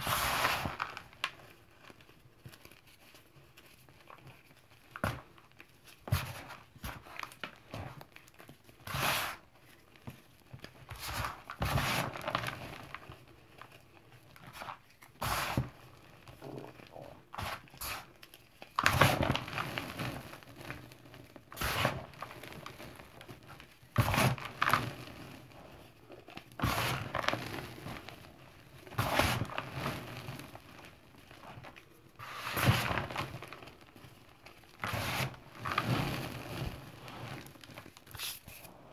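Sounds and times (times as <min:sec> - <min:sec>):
hands crumbling chalk powder: 0:00.0 - 0:38.9.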